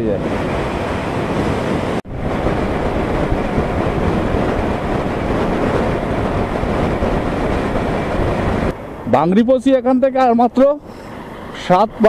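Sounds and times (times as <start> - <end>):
motorcycle road and engine noise: 0.0 - 12.0
wind rushing over microphone: 0.0 - 12.0.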